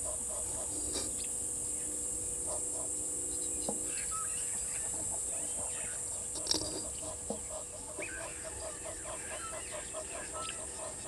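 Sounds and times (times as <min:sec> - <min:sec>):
bird chirps and calls: 0:00.0 - 0:11.0
insects droning: 0:00.0 - 0:11.0.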